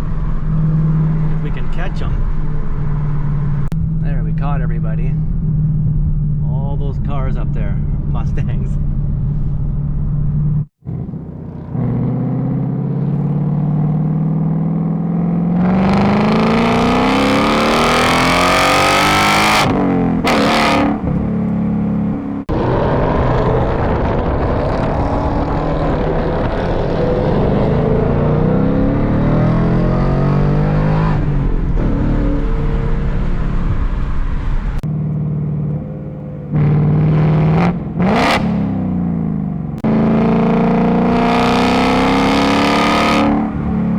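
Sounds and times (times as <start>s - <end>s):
car engines revving and accelerating: 0.0s - 43.9s.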